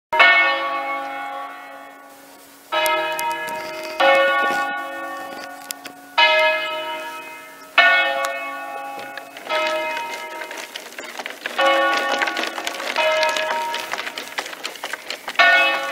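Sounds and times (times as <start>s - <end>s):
bells ringing: 0.2s - 15.9s.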